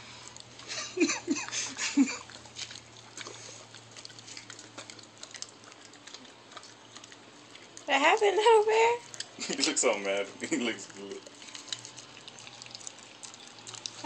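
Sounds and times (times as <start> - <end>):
dog licking and smacking lips: 0.0 - 14.0.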